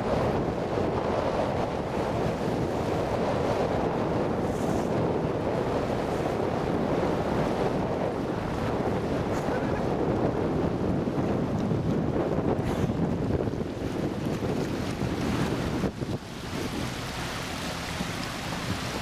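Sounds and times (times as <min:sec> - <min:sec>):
sea water washing around boat: 0:00.0 - 0:19.0
wind buffeting microphone: 0:00.0 - 0:19.0.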